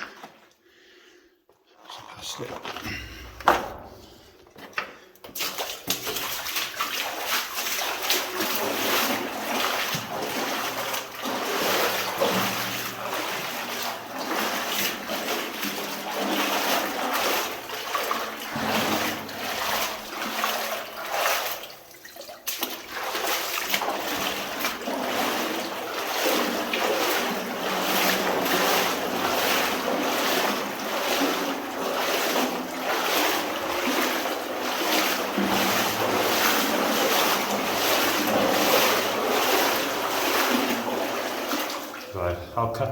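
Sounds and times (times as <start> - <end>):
person wading through water: 2.2 - 42.6.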